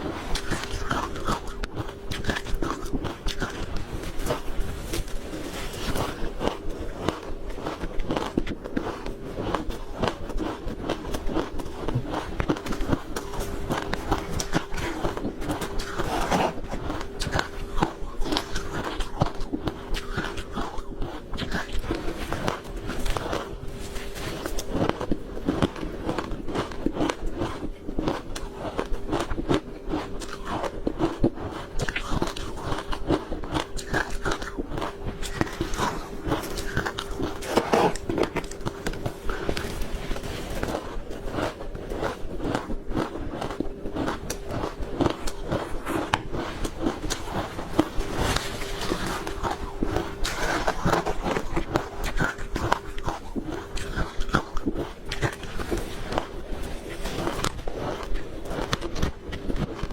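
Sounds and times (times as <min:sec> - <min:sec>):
faint hum: 0:00.0 - 0:59.9
ice crunching while chewed: 0:00.0 - 0:59.9.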